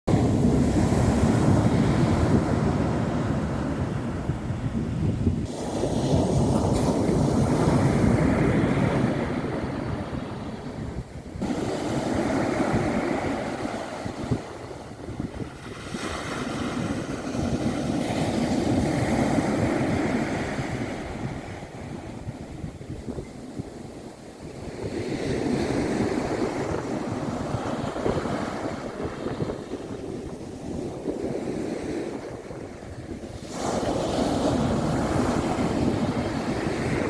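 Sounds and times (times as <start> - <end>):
sea waves washing onto shore: 0.1 - 37.0
wind rumbling on microphone: 0.1 - 37.0.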